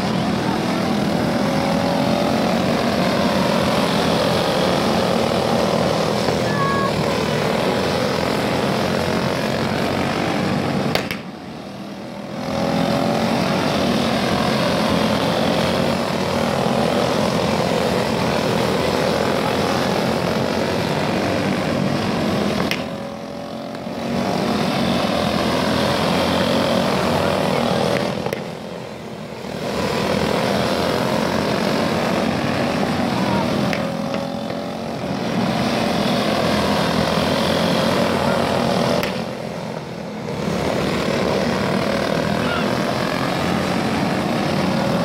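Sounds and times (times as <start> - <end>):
kart engines buzzing: 0.0 - 45.0.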